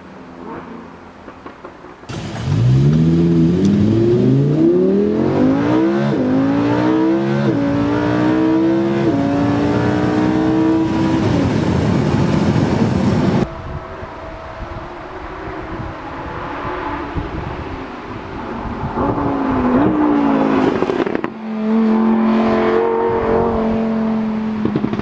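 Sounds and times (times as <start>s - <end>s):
sports car accelerating hard: 2.1s - 25.0s.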